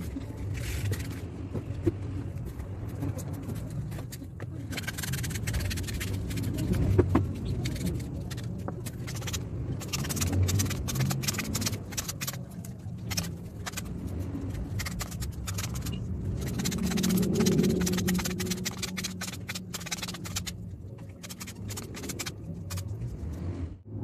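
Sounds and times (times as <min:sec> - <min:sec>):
steady low hum: 0:00.0 - 0:24.0
plastic pieces scraping and rustling: 0:02.4 - 0:22.9.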